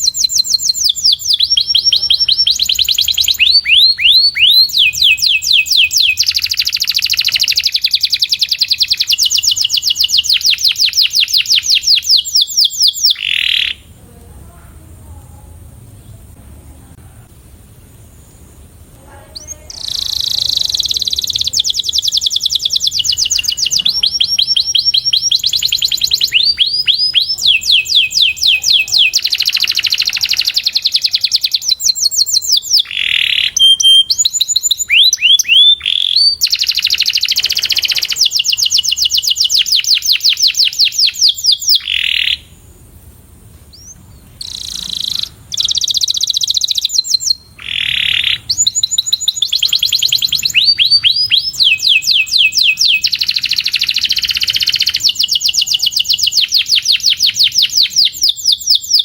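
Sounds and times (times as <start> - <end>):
canary singing trills: 0.0 - 14.0, 17.8 - 42.6, 43.7 - 59.0.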